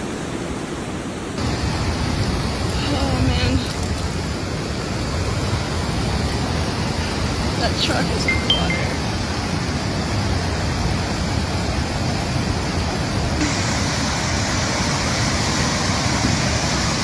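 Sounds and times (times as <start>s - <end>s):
rushing floodwater: 0.0s - 17.0s.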